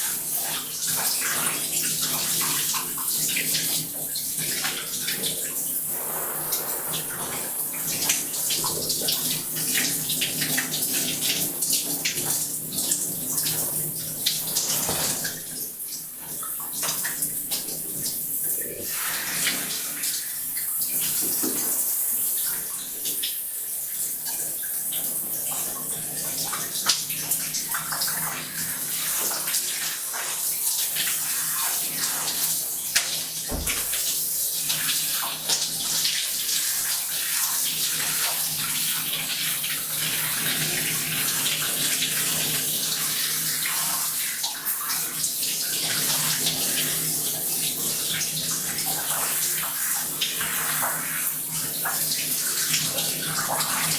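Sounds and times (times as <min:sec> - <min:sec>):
water splashing into bathtub: 0:00.0 - 0:23.4, 0:24.1 - 0:53.9.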